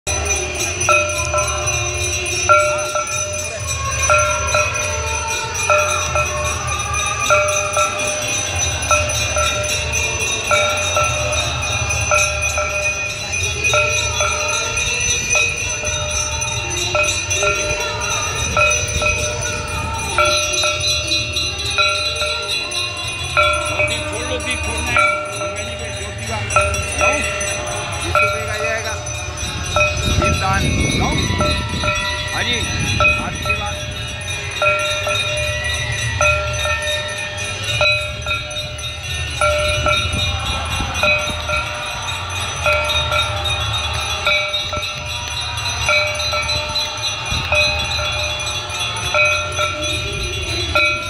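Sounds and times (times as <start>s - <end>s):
bells ringing: 0.0s - 51.0s
devotional music: 0.1s - 51.0s.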